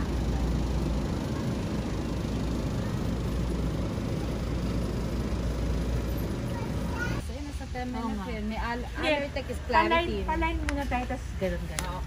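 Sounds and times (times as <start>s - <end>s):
store background rumble and hiss: 0.0s - 12.0s.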